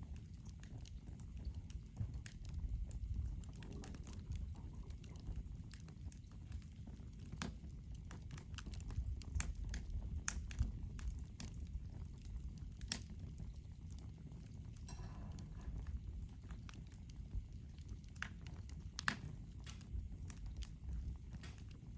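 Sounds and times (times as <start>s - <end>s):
fire popping: 0.0s - 21.9s
wood fire crackling: 0.0s - 21.9s.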